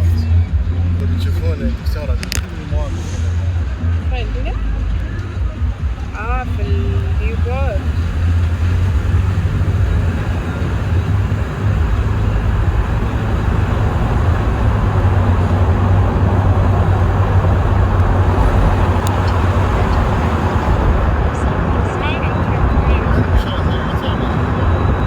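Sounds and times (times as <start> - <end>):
road rumble: 0.0 - 25.0
tyre noise: 0.0 - 25.0
wind noise: 0.0 - 25.0.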